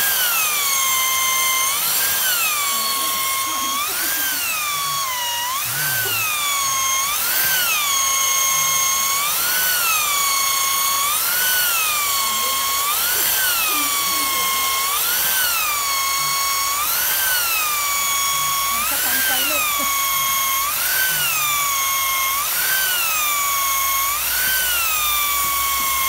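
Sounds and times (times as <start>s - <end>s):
electric drill boring into wood: 0.0s - 26.0s.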